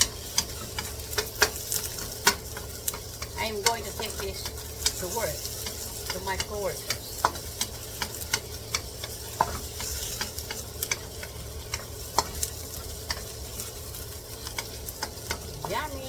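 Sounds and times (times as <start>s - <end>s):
garlic and onion sizzling in pan: 0.0s - 16.0s
utensil scraping pan: 0.0s - 16.0s.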